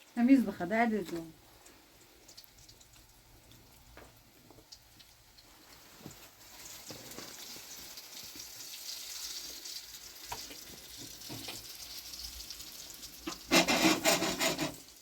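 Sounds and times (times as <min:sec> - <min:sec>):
crackling hiss with clicks: 0:00.0 - 0:13.5.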